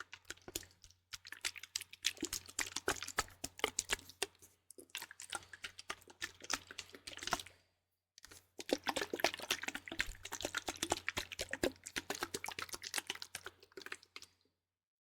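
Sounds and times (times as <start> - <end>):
liquid sloshing in plastic bottle: 0.0 - 7.6, 8.2 - 14.5.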